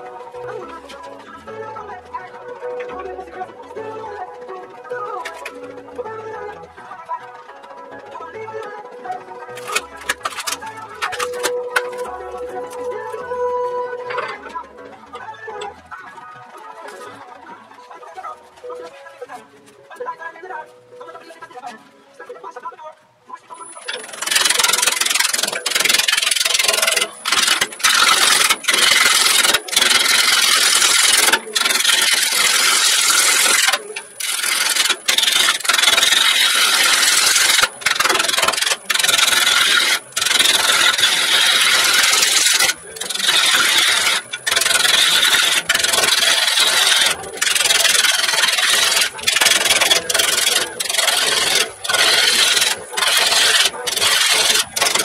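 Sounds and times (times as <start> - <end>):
lathe tool scraping wood: 0.0 - 19.4, 23.6 - 55.0.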